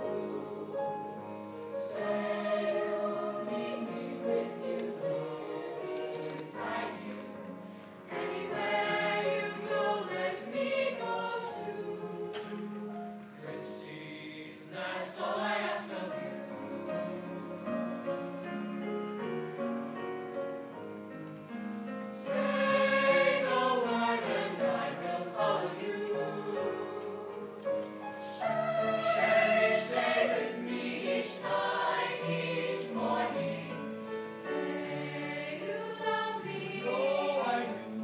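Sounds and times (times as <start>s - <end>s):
choir singing: 0.0s - 19.6s, 22.1s - 38.0s.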